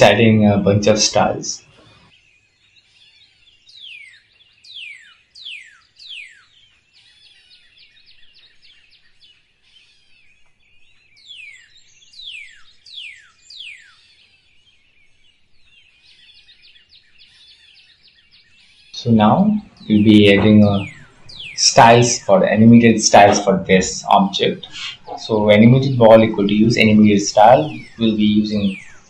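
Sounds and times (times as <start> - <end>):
soft bird chirping: 0.0 - 29.0.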